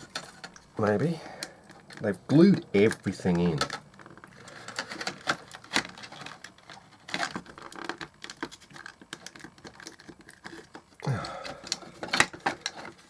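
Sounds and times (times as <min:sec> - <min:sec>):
plastic and metal parts clicking: 0:01.4 - 0:13.0.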